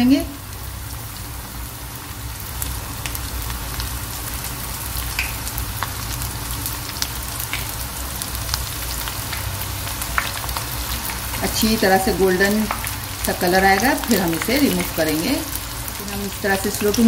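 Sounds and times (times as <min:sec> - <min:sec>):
food deep-frying in oil: 0:00.0 - 0:17.0
oil crackling and popping: 0:00.4 - 0:17.0.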